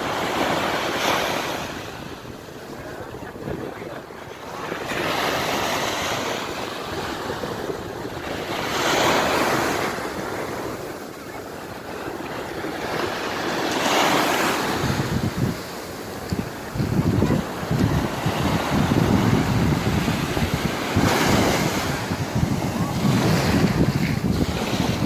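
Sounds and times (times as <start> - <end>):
sea waves washing in: 0.0 - 25.0.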